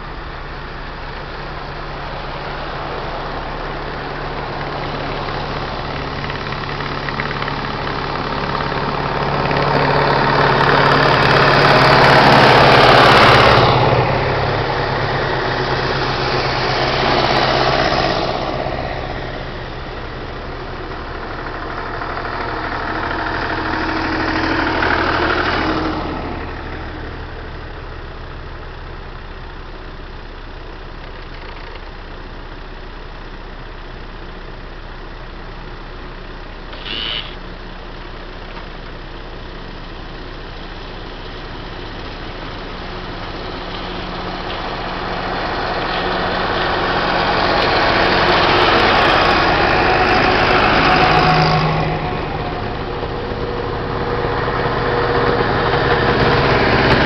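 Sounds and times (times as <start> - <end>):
vehicles passing: 0.0 - 29.7, 34.8 - 57.0
steady low engine hum: 0.0 - 57.0.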